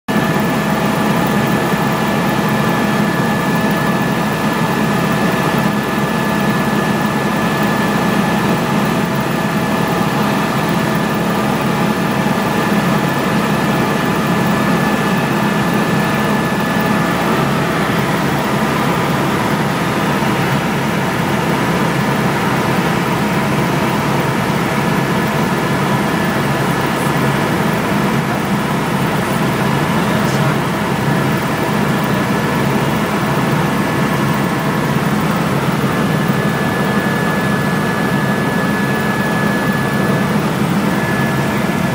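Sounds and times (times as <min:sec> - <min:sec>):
aircraft engine drone: 0:00.1 - 0:41.9.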